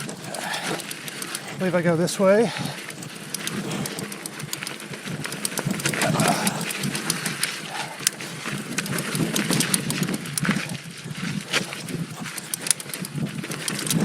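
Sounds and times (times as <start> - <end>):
bike rattling clicks and knocks: 0.0 - 14.0
bike tyres crunching on dirt: 0.0 - 14.0.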